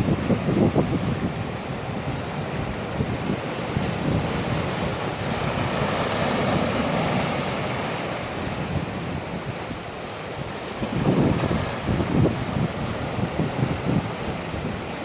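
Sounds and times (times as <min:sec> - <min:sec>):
ocean waves washing in: 0:00.0 - 0:15.0
wind buffeting the microphone: 0:00.0 - 0:15.0.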